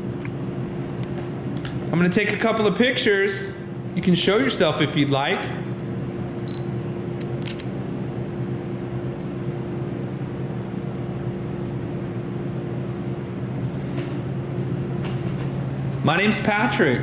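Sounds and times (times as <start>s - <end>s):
refrigerators humming: 0.0s - 17.0s.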